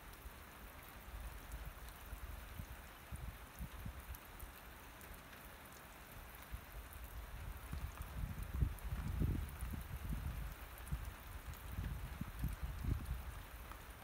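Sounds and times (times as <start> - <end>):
rain drops ticking: 0.0 - 14.0.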